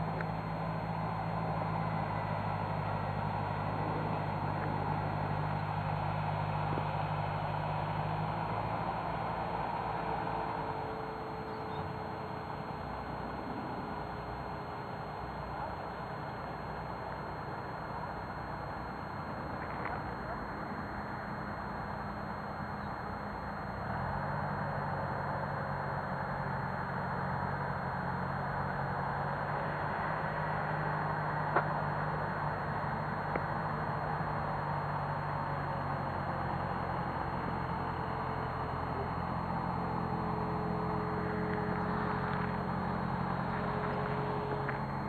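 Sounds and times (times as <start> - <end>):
low engine hum: 0.0 - 45.0.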